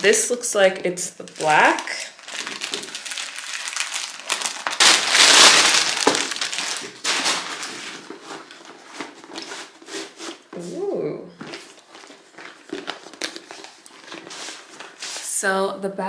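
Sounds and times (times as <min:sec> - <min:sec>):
plastic packaging crinkling: 0:00.0 - 0:10.7, 0:11.4 - 0:15.4.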